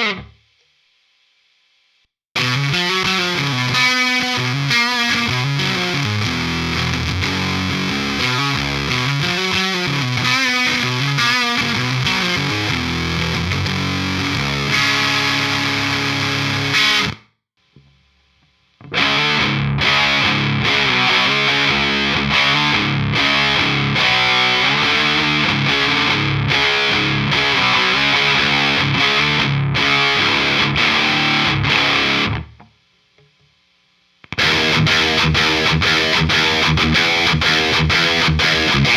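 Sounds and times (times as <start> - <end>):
distorted electric guitar riffing: 0.0 - 0.4, 2.4 - 17.2, 18.8 - 32.7, 34.2 - 38.9.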